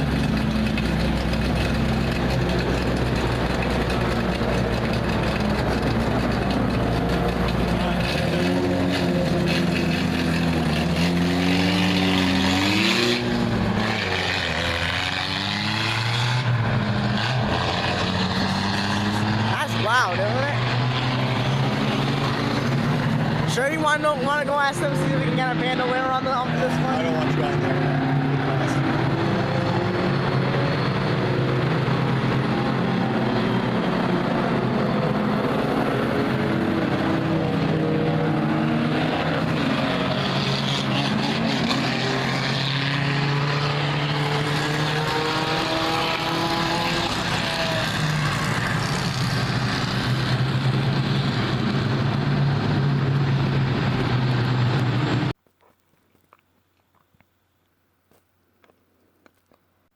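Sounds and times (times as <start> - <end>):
racing car engines: 0.0 - 55.4.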